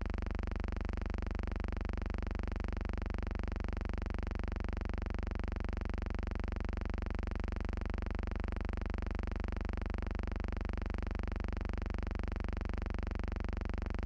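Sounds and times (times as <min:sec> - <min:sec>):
pulsing low hum with buzz: 0:00.0 - 0:14.0.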